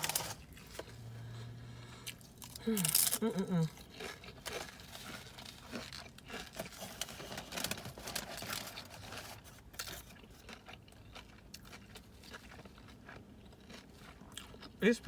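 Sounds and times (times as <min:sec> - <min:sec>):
food wrapping crinkling: 0:00.0 - 0:01.4, 0:02.2 - 0:14.6.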